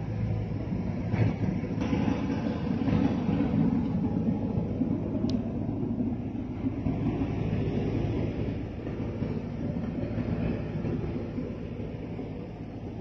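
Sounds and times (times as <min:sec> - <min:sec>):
bulldozer diesel engine rumble: 0:00.0 - 0:13.0.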